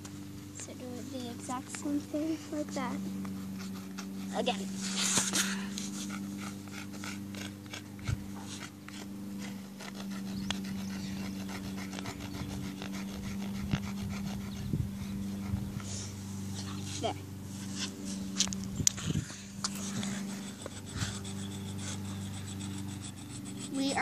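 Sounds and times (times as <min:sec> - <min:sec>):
steady low hum: 0:00.0 - 0:24.0
chalk scraping on pavement: 0:00.6 - 0:14.6, 0:15.4 - 0:24.0.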